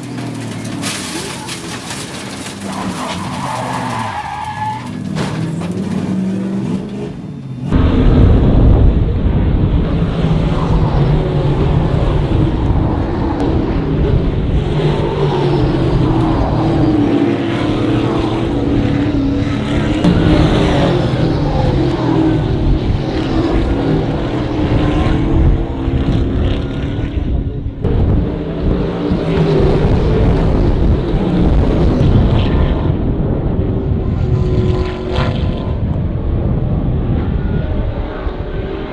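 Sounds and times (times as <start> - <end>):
race car engines running hard: 0.0 - 38.9.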